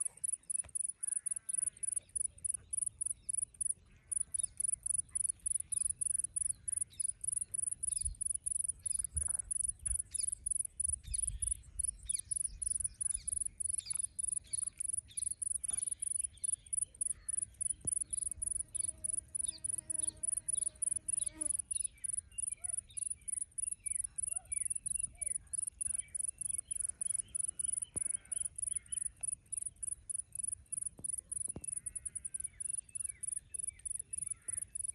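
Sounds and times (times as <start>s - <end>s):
bird chirps: 0.0s - 34.9s
high-pitched pulsing insect call: 0.0s - 34.9s.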